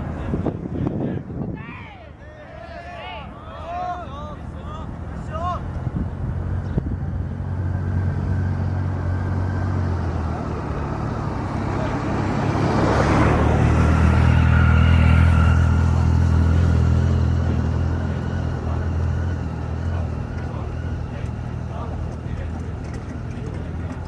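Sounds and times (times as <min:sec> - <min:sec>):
airship propeller engines droning: 0:00.0 - 0:24.0.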